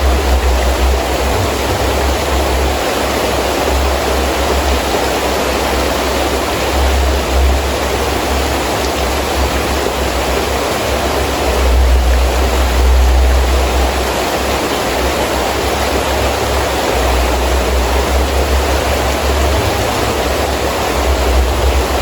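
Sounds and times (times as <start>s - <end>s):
heavy rain falling: 0.0s - 22.0s
strong wind gusting: 0.0s - 22.0s.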